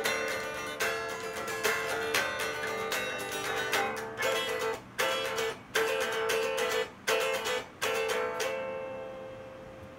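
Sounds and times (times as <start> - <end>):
strummed string instrument chords: 0.0 - 9.6.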